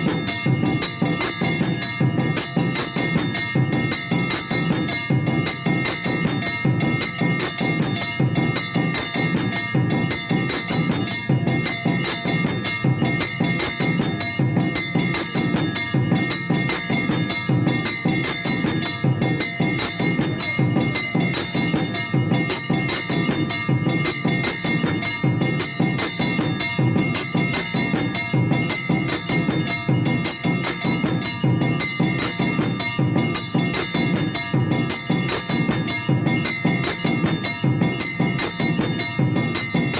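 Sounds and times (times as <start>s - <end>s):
fast percussion strikes: 0.0s - 39.9s
temple bells ringing: 0.0s - 39.9s.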